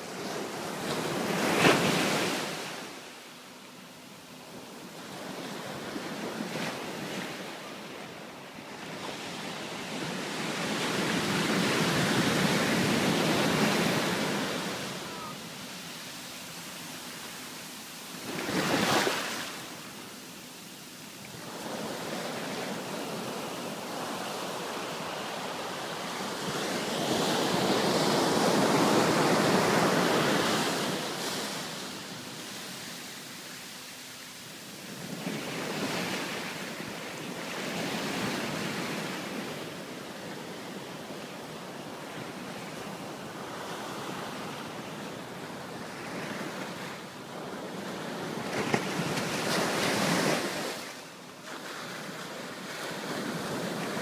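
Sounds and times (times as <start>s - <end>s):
ocean surf washing over sand: 0.0s - 3.2s, 4.4s - 54.0s.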